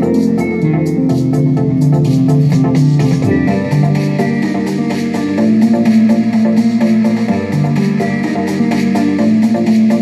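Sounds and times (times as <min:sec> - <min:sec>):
driving percussion beat: 0:00.0 - 0:10.0
fast rolling bassline: 0:00.0 - 0:10.0.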